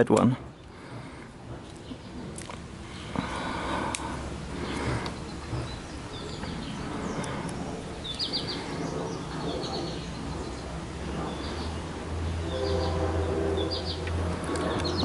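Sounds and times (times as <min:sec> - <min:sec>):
outdoor background hum: 0:00.0 - 0:15.0
small birds chirping: 0:00.0 - 0:15.0.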